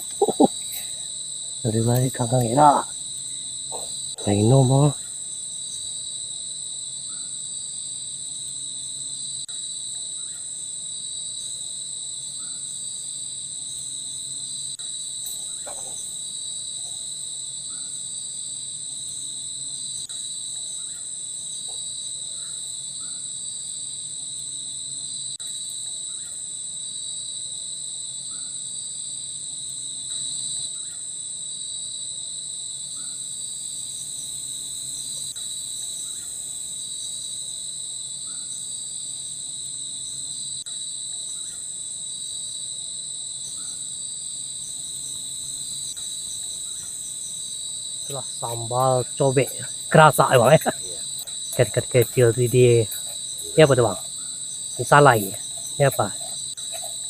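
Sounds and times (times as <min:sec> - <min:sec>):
crickets chorus: 0:00.0 - 0:57.0.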